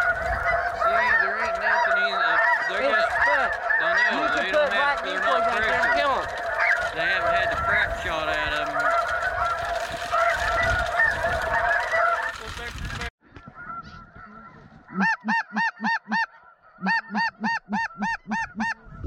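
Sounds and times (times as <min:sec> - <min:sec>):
snow geese honking: 0:00.0 - 0:19.0.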